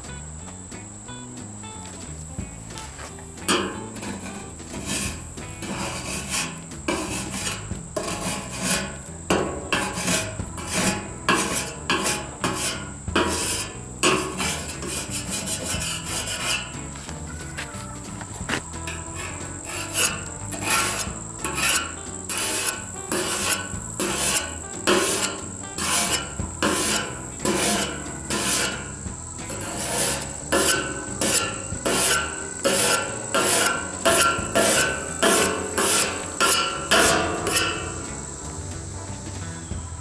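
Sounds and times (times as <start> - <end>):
hand filing metal: 2.8 - 38.4.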